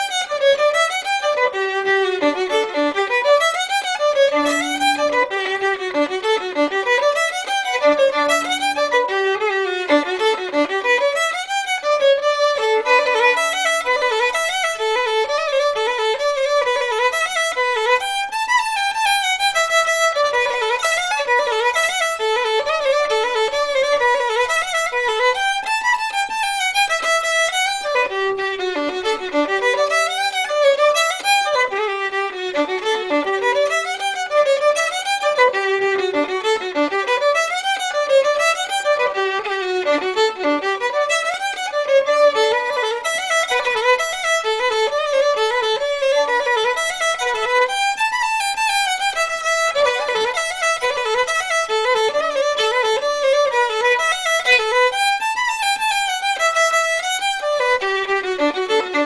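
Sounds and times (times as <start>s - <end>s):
fiddle playing dance tune: 0.0s - 59.0s.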